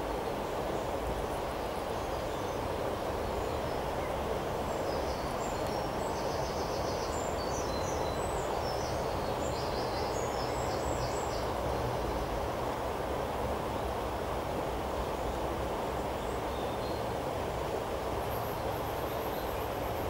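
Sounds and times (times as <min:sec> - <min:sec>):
rushing outdoor noise with low rumble: 0:00.0 - 0:20.0.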